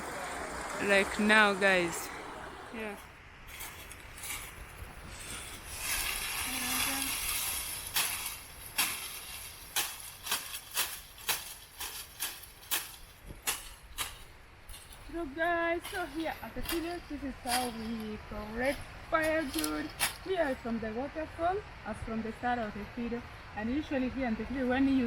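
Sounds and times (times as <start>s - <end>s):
rustling hiss: 0.0s - 20.7s.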